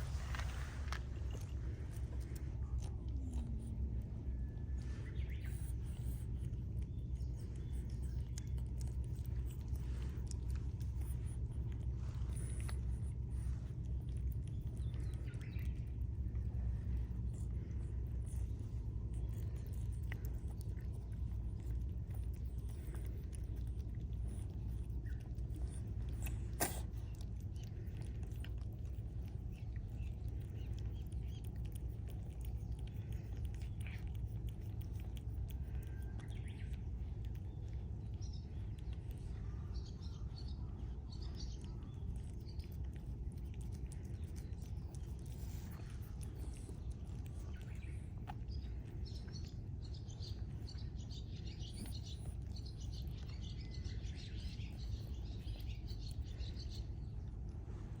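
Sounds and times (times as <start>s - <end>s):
low rumble: 0.0s - 58.0s
faint bird chirps: 2.7s - 28.1s, 29.0s - 58.0s.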